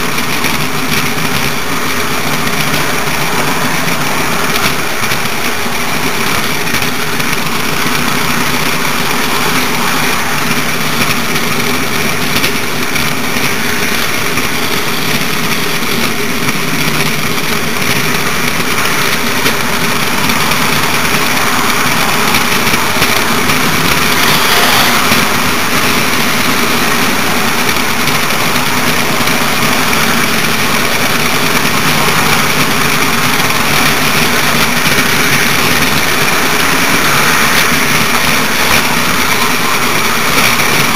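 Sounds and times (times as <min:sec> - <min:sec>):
model train motor whirring: 0:00.0 - 0:40.9
wheels rolling on track: 0:00.0 - 0:40.9.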